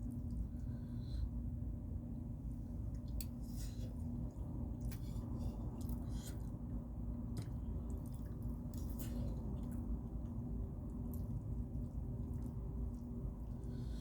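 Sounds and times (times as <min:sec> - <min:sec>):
steady low hum: 0:00.0 - 0:14.0
person chewing food: 0:02.8 - 0:14.0.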